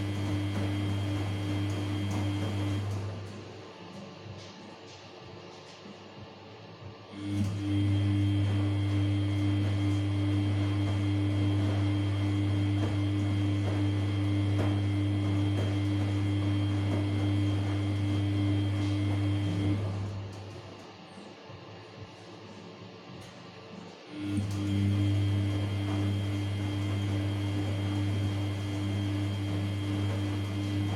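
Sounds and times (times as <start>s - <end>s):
washing machine humming: 0.0s - 30.9s.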